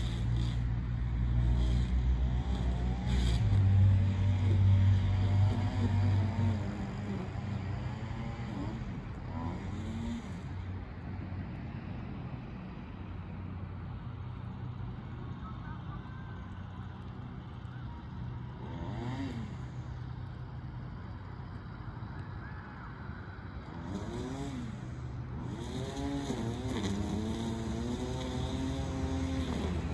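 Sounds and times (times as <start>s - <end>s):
low engine hum: 0.0s - 29.9s.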